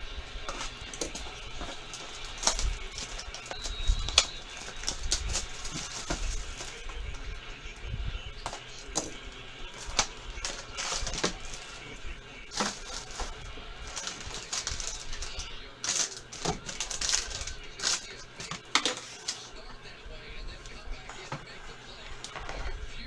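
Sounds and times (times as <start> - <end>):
cardboard rustling and scraping: 0.0 - 23.0.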